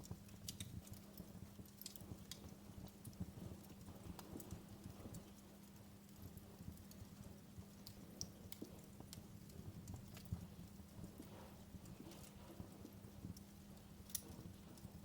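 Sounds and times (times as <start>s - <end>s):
faint steady hum: 0.0s - 15.0s
wood fire crackling: 0.0s - 15.0s.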